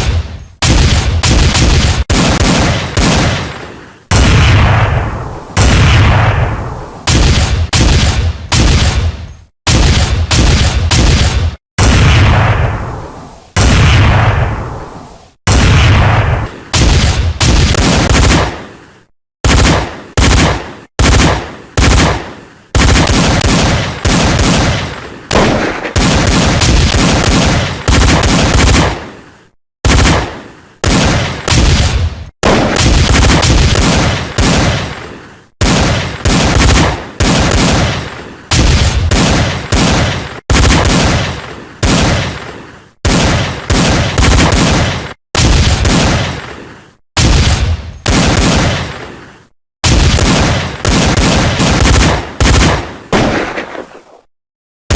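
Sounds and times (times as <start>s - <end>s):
gunshot bursts: 0.0s - 18.8s, 19.4s - 54.3s.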